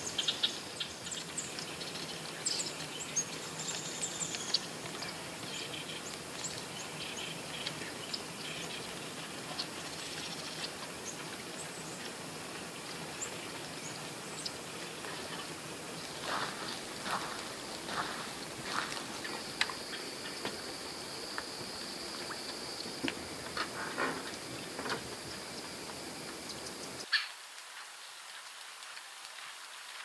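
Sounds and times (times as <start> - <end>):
small birds chirping: 0.0 - 27.3
background hiss: 0.0 - 30.0.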